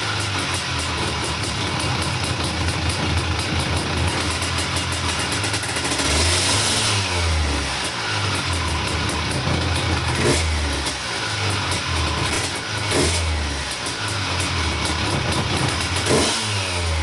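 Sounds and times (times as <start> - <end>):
two-stroke scooter engine revving: 0.0 - 17.0.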